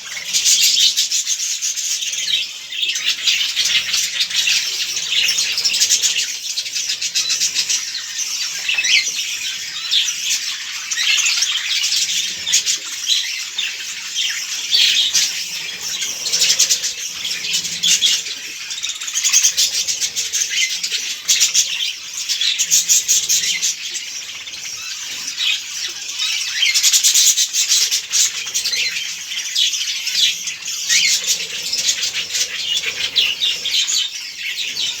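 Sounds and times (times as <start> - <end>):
budgerigars chattering: 0.0 - 35.0.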